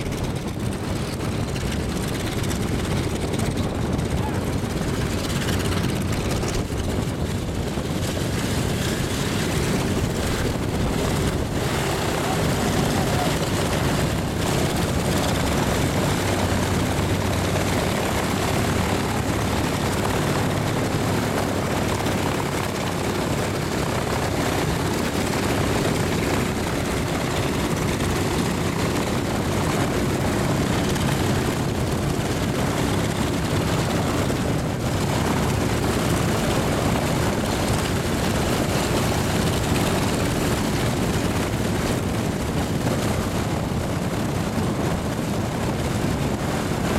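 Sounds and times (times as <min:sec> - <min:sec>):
radial piston engines and propellers: 0:00.0 - 0:46.9.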